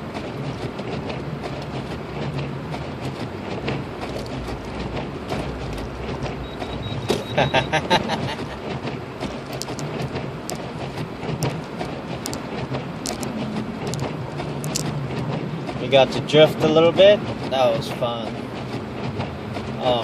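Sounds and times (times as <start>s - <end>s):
low engine hum: 0.0s - 20.0s
tyre and road noise: 0.0s - 20.0s.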